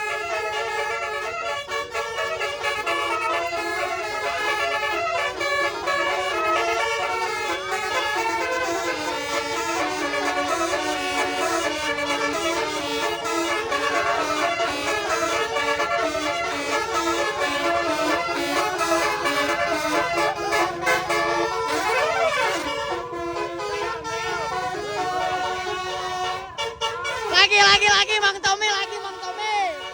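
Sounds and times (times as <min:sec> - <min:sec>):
multi-tone bus horn melody: 0:00.0 - 0:29.9.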